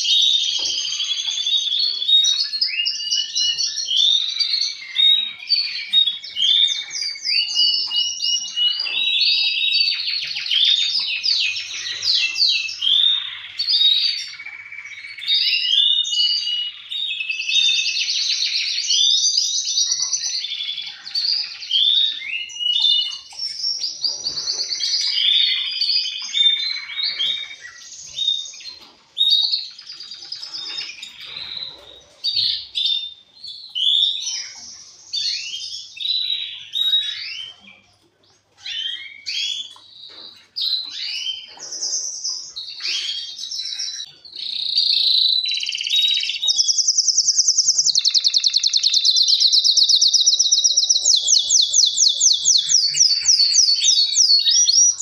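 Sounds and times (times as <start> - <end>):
canaries singing trills: 0.0 - 55.0.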